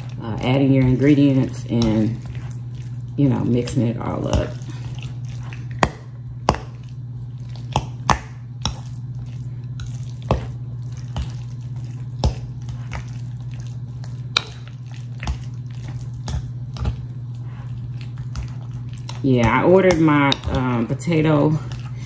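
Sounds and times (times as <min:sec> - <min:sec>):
fork mashing potatoes in glass bowl: 0:00.0 - 0:22.0
steady low hum: 0:00.0 - 0:22.0.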